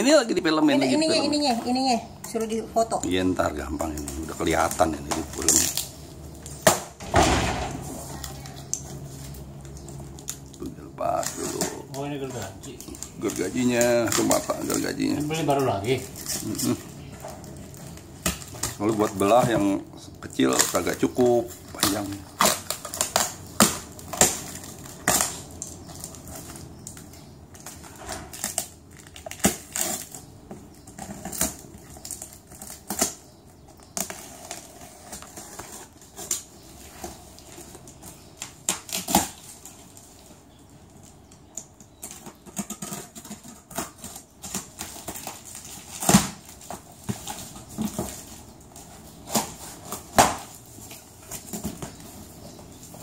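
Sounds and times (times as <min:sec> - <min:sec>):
plastic wrap and tape tearing: 0:03.3 - 0:53.0.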